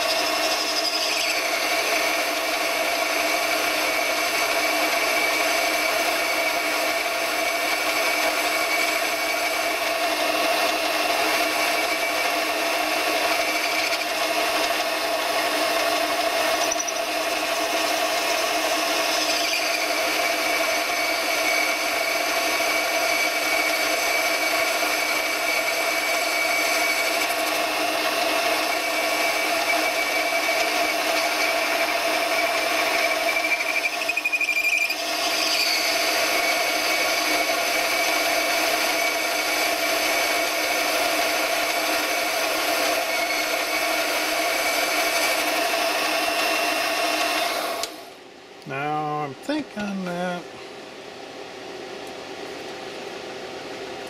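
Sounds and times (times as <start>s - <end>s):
metal lathe whining: 0.0s - 48.2s.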